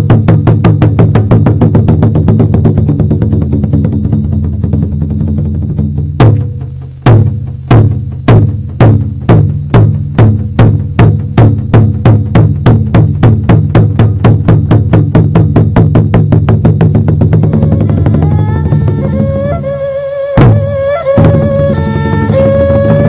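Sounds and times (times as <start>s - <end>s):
drum beats speeding up: 0.0s - 23.0s.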